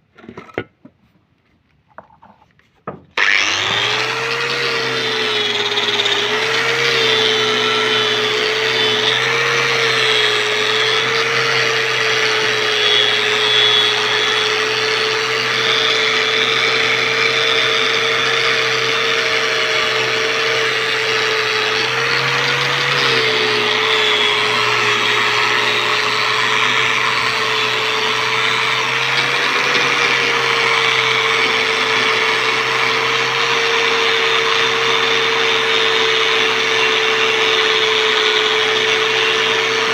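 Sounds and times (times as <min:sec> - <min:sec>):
angle grinder wire brush scraping: 0:03.2 - 0:39.9.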